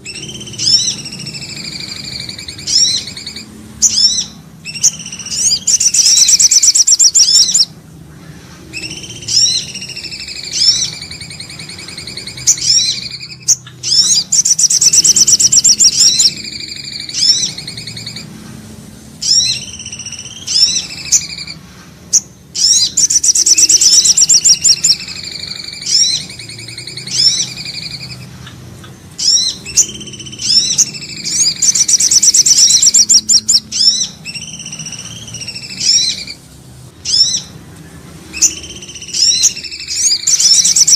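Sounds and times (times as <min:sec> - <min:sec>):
high whistled bird notes: 0:00.0 - 0:18.4, 0:19.1 - 0:37.6, 0:38.2 - 0:40.9
bird trill: 0:00.0 - 0:40.9.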